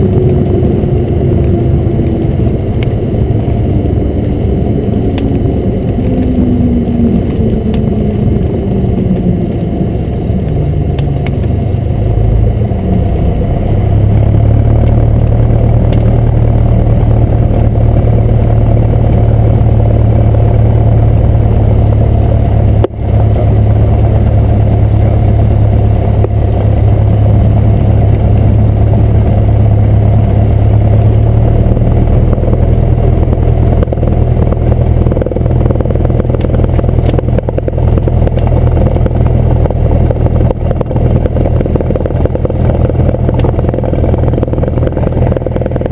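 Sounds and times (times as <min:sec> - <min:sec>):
small plane engine and propeller: 0:00.0 - 0:45.9.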